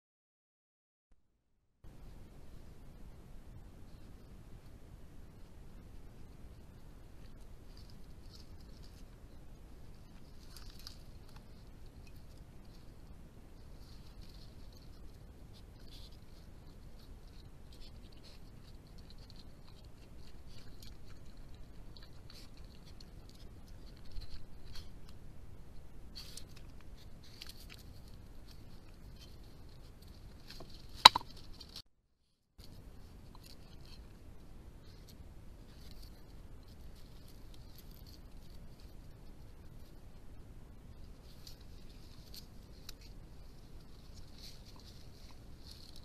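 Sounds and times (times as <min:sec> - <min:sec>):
badgers rustling and scratching: 0:05.3 - 0:31.8, 0:32.6 - 0:46.0.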